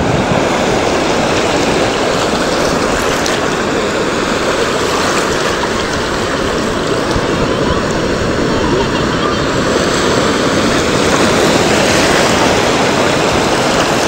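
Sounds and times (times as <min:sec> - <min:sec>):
waves breaking on shore: 0:00.0 - 0:14.0.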